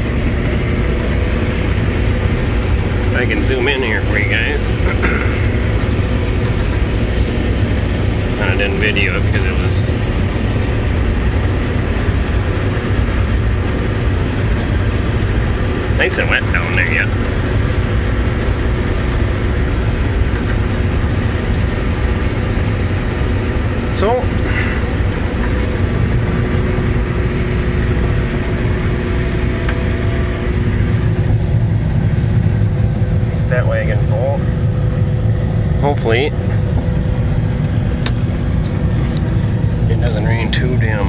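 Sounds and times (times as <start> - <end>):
forage chopper hum: 0.0 - 41.0
tractor engine rumble: 0.0 - 41.0.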